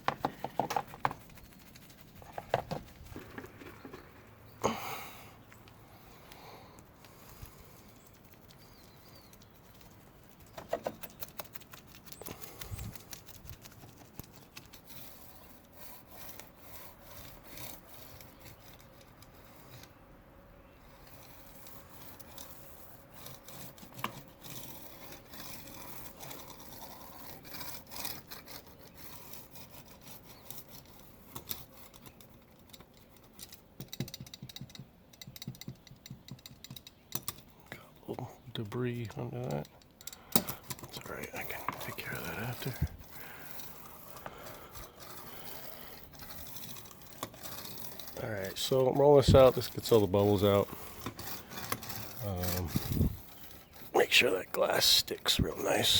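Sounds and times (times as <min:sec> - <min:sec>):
rubbing and scraping wet cloth: 0:00.0 - 0:20.0, 0:20.8 - 0:33.4, 0:40.5 - 0:55.9.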